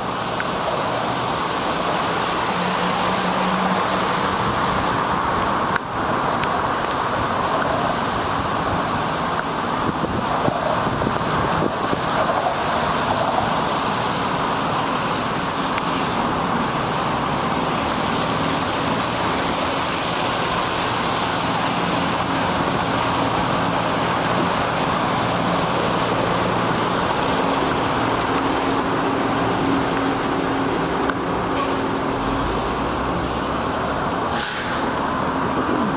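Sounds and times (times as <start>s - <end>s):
traffic noise: 0.0s - 35.9s
tyres hissing on wet pavement: 0.0s - 35.9s
vehicle engine hum: 0.0s - 35.9s.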